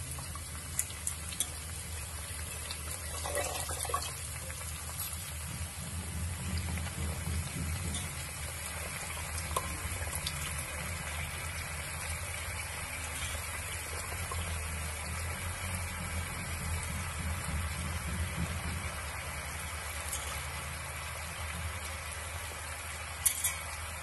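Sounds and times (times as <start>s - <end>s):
leaves sizzling in hot oil: 0.0s - 24.0s.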